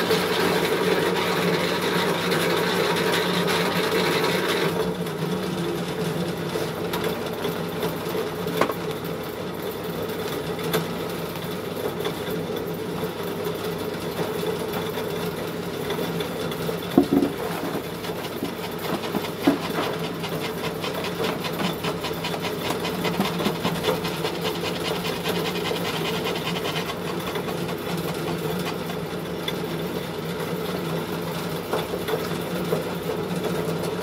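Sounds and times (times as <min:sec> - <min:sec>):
pellet mill motor rattling: 0:00.0 - 0:34.0.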